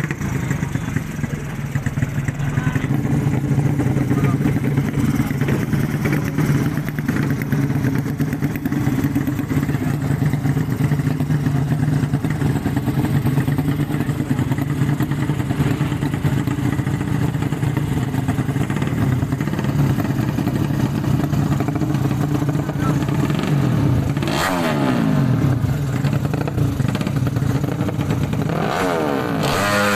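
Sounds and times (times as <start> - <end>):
motorcycle engine running steadily: 0.0 - 29.9.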